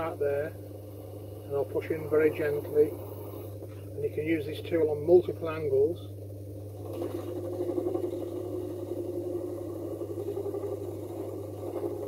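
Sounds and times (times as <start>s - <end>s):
lathe motor hum: 0.0s - 12.0s.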